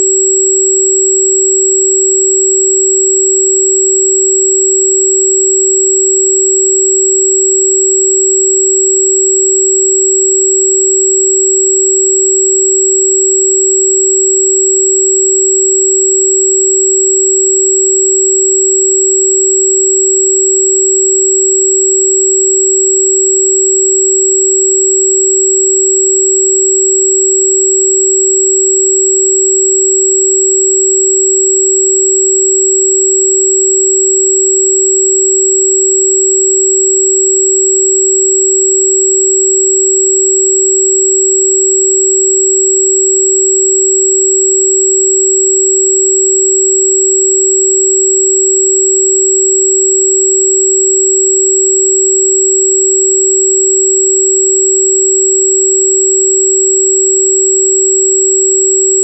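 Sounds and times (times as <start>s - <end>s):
steady pure sine tone: 0.0s - 59.0s.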